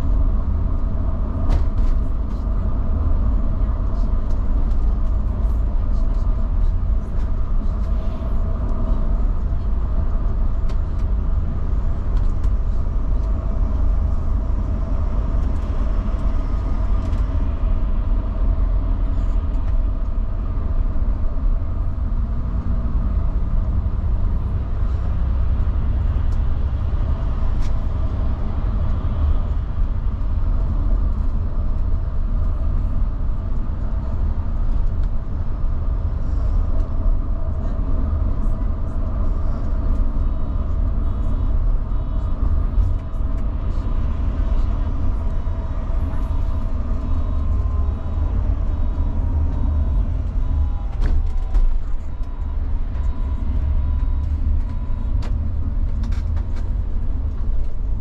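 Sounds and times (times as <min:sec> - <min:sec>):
constant hum: 0:00.0 - 0:58.0
engine and road rumble: 0:00.0 - 0:58.0.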